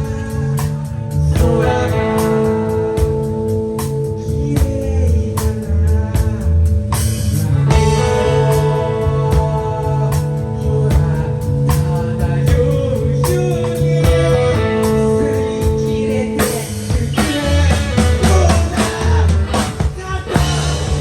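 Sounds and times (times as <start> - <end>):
person singing: 0.0 - 6.6, 7.7 - 21.0
live rock band playing: 0.0 - 21.0.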